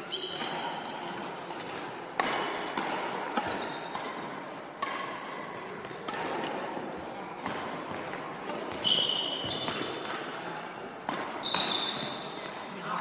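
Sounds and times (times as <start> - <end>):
rackets hitting shuttlecock: 0.1 - 12.6.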